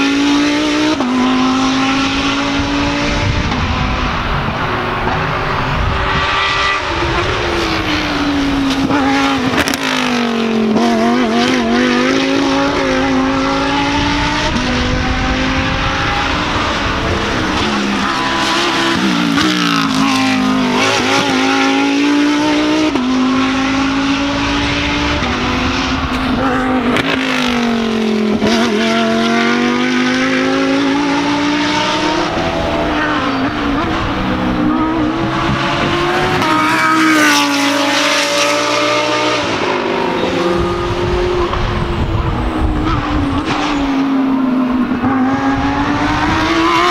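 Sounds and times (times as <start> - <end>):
race car engines: 0.0 - 46.9.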